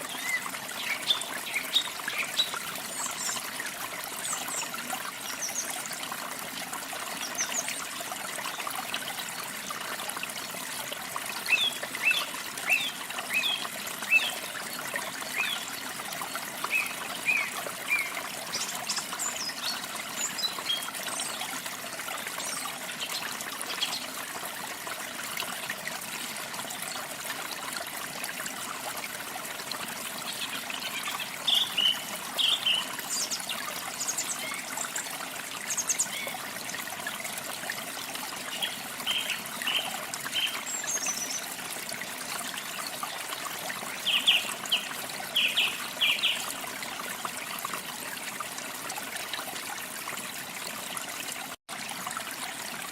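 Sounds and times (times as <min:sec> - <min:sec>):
stream trickling: 0:00.0 - 0:52.9.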